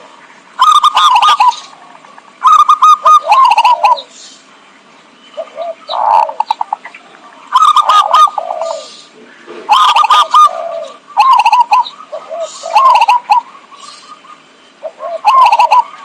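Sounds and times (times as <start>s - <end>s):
dove cooing: 0.0s - 4.2s, 5.4s - 16.0s.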